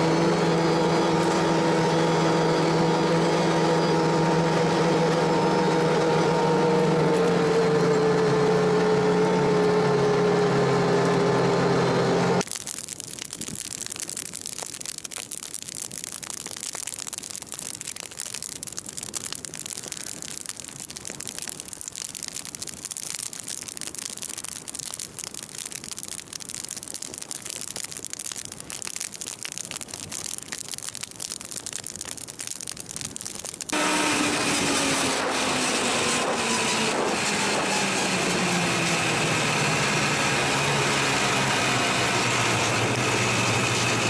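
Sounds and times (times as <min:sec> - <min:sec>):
bonfire crackling and popping: 0:00.0 - 0:09.9, 0:10.8 - 0:44.0.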